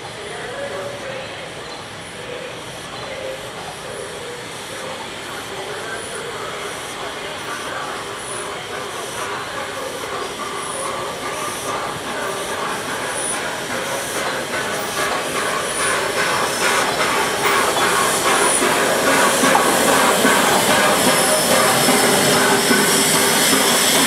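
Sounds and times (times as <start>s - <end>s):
steam hissing: 0.0s - 24.0s
train wheels clattering on rails: 2.7s - 24.0s.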